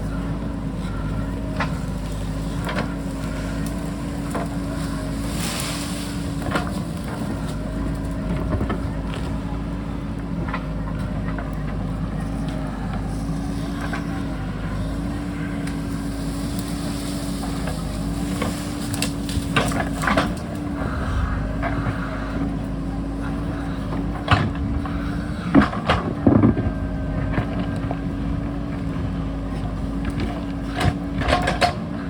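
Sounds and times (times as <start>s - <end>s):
backhoe diesel engine running: 0.0s - 32.0s.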